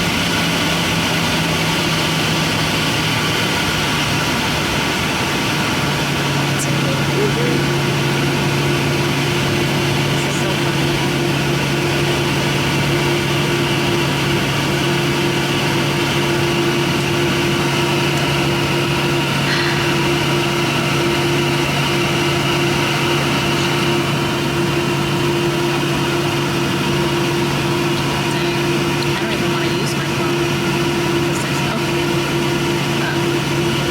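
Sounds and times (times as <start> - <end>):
airliner cabin engine roar: 0.0 - 33.9.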